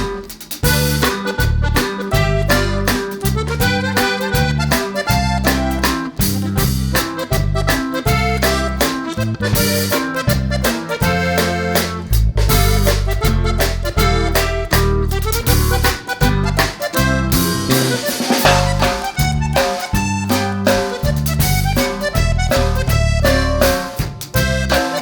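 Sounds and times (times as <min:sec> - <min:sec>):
accordion-like melody: 0:00.0 - 0:25.0
steady beat and bass line: 0:00.0 - 0:25.0.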